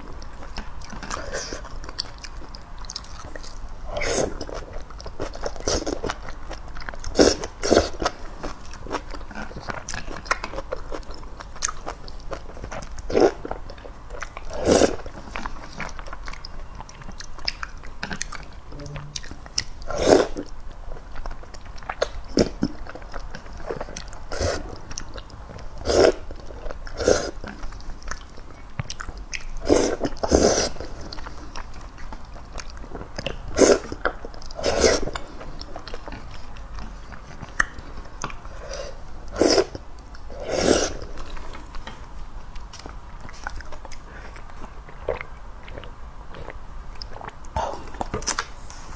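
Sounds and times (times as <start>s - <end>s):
wet chewing and slurping: 0.0s - 48.9s.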